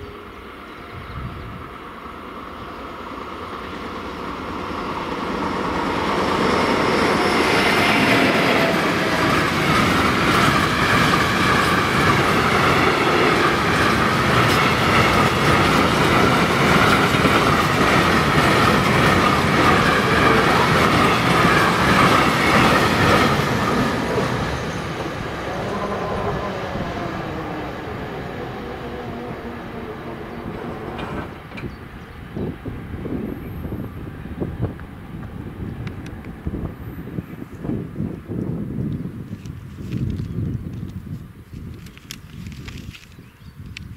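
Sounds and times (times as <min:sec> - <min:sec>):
freight train wheels on rails: 0:00.1 - 0:43.9.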